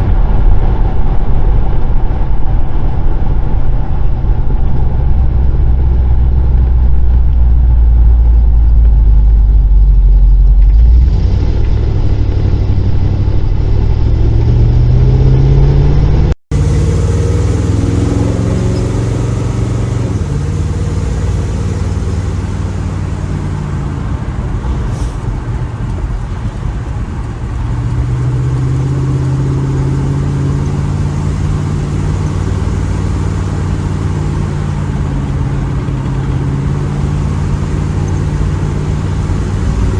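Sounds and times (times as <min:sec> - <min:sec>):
car engine exhaust rumble: 0:00.0 - 0:39.9.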